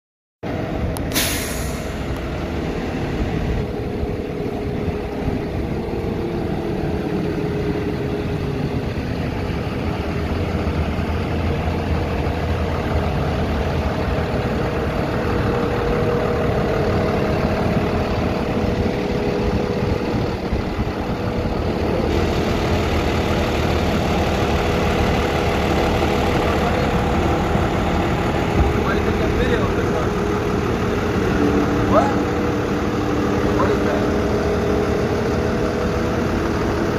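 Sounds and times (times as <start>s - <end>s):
truck engine idling: 0.4s - 36.9s.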